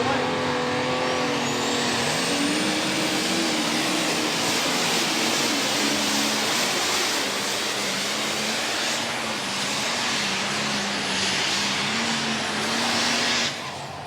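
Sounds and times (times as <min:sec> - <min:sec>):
tractor engine at full throttle: 0:00.0 - 0:14.0.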